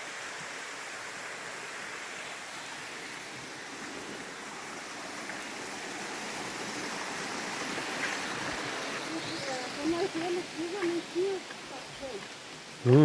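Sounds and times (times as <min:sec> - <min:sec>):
waterfall rushing and splashing: 0:00.0 - 0:12.9.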